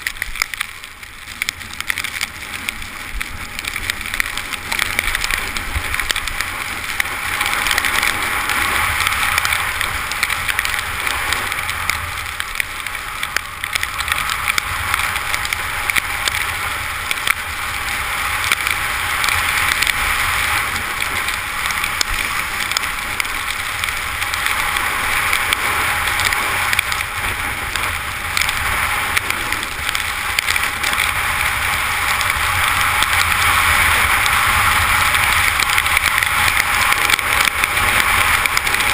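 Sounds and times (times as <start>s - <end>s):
skis hissing over snow: 0.0s - 13.2s, 13.9s - 38.9s
wind rumbling on microphone: 0.0s - 38.9s.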